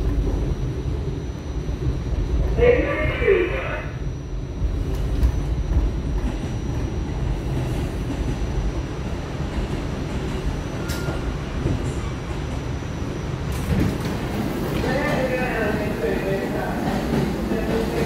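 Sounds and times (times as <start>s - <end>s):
subway train rumbling on rails: 0.0s - 18.0s.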